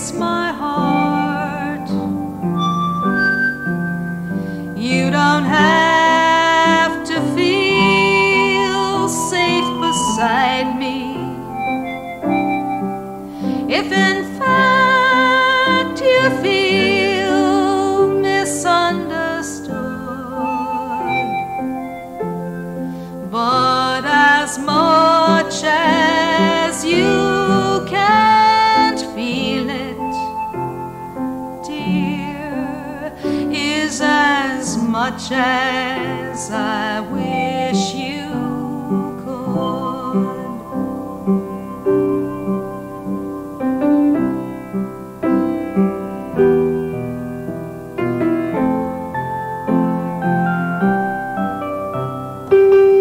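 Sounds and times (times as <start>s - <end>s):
high wavering melody: 0.0s - 47.8s
sustained keyboard chords: 0.0s - 53.0s.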